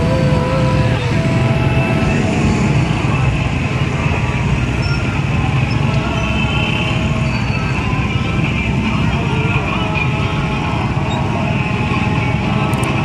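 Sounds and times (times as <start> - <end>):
drone of many small engines: 0.0 - 13.0.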